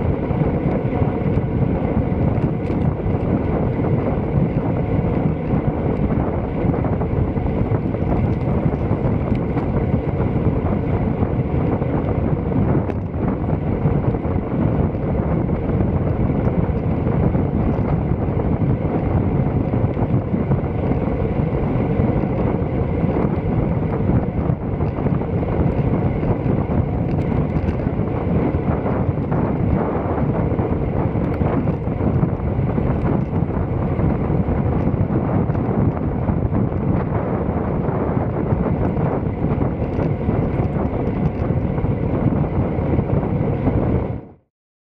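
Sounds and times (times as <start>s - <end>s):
wind buffeting microphone: 0.0s - 44.4s.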